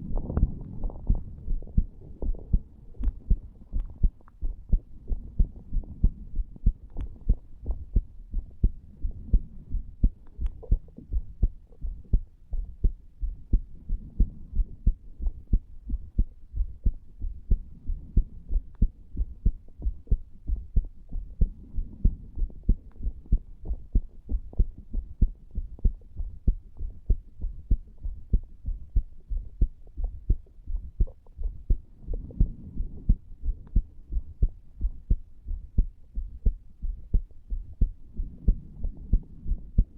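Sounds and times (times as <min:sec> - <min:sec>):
heartbeat: 0:00.0 - 0:39.9.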